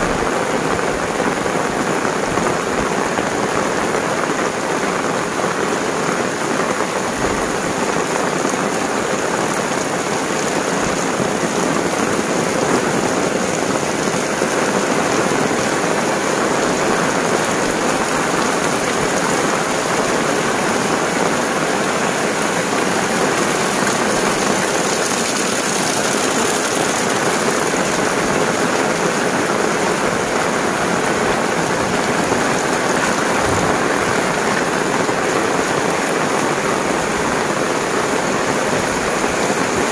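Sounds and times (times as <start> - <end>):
heavy rain on pavement: 0.0 - 39.9
rain on umbrella: 0.0 - 39.9.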